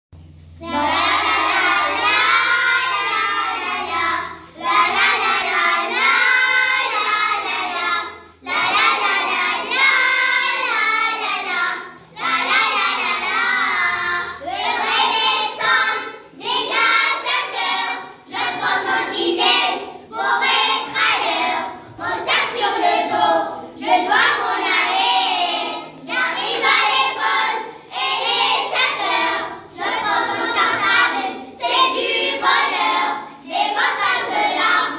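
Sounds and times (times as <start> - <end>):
children singing in unison: 0.6 - 34.9.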